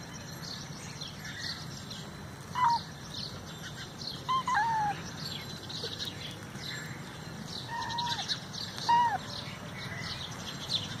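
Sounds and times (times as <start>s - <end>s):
faint high chirping: 0.0s - 11.0s.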